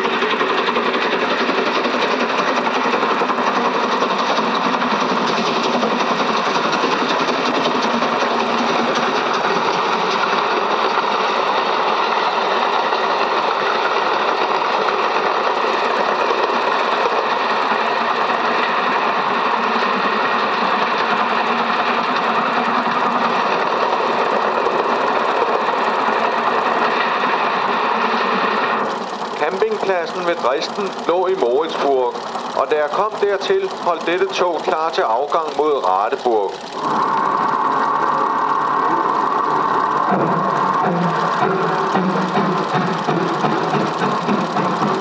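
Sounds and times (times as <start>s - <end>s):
film projector whirring: 0.0s - 45.0s.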